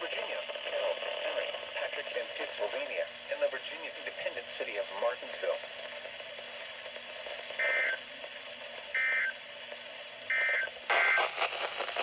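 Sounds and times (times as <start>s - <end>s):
radio noise crackle: 0.0s - 9.4s, 10.3s - 12.0s.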